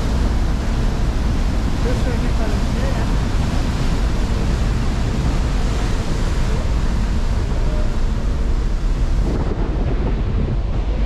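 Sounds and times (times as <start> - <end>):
ferry engine rumble: 0.0 - 11.0
sea rushing: 0.0 - 11.0
wind buffeting microphone: 0.0 - 11.0.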